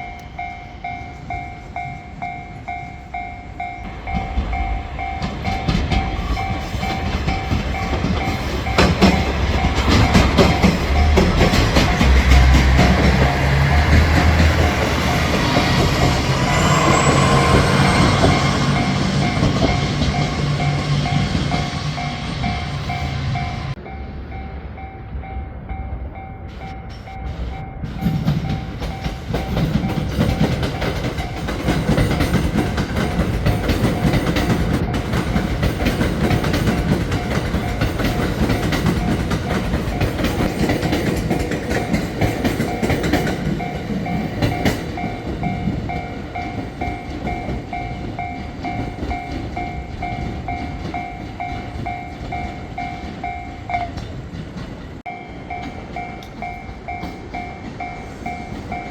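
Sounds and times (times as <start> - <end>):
train passing: 0.0 - 58.9.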